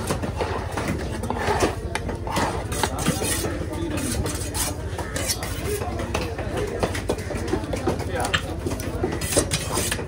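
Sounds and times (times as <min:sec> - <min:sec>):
knife scraping and tapping on block: 0:00.0 - 0:10.0
voices: 0:00.0 - 0:10.0.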